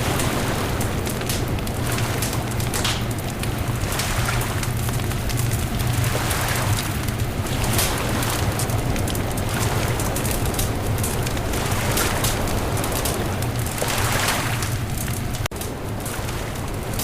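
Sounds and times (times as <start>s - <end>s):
bonfire crackling and popping: 0.0s - 17.0s
low rumble: 0.0s - 17.0s.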